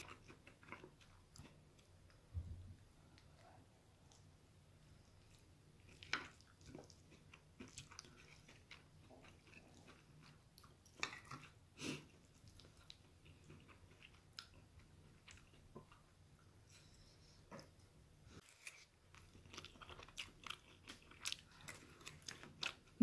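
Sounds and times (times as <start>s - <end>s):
chewing: 0.0s - 2.2s, 3.0s - 17.8s, 18.4s - 23.0s.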